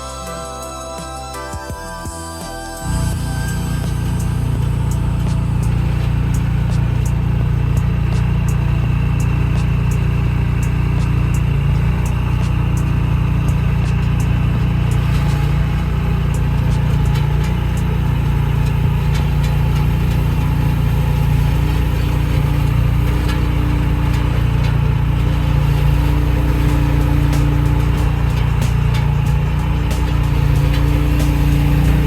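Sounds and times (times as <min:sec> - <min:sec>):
engine humming steadily: 0:00.0 - 0:32.0.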